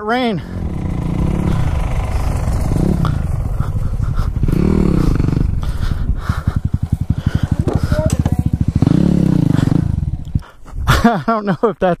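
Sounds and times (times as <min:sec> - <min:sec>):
dirt bike engine revving and idling: 0:00.0 - 0:11.1.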